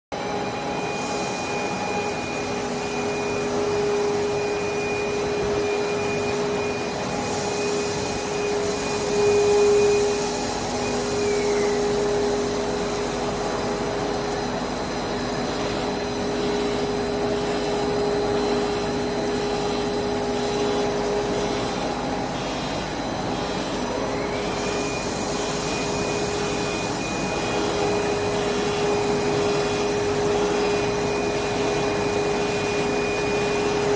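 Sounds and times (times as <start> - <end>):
hum of motors and fans: 0.1 - 33.9
machine whining tones: 0.1 - 33.9.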